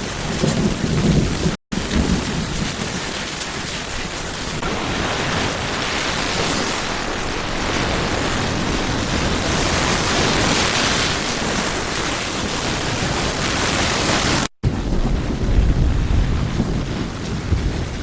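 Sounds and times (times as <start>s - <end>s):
heavy water rushing: 0.0s - 16.6s
wind noise: 0.0s - 18.0s.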